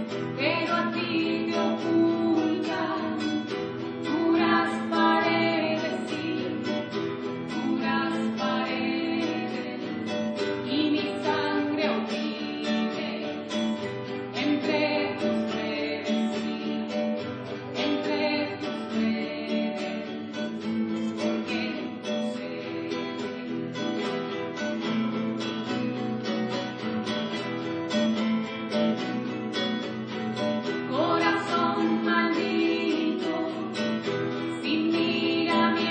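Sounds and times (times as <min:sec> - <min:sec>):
person singing: 0:00.0 - 0:24.1, 0:30.6 - 0:35.9
strummed acoustic guitar: 0:00.0 - 0:35.9.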